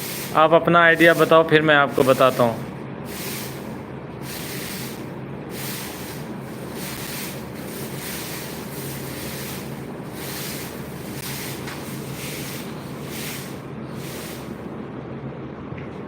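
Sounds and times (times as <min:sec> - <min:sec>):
hissing water spray: 0:00.0 - 0:14.6
motor hum: 0:00.0 - 0:15.8.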